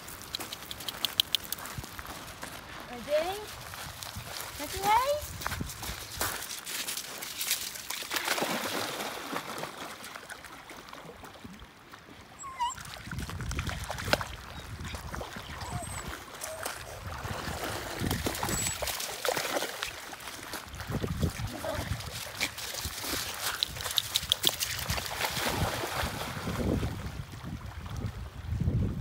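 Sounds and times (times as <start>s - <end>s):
dogs splashing through water: 0.0s - 28.2s.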